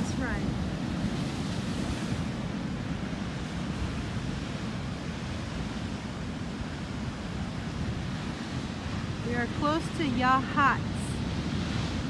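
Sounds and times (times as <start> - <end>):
surf washing over rocky shore: 0.0 - 12.0.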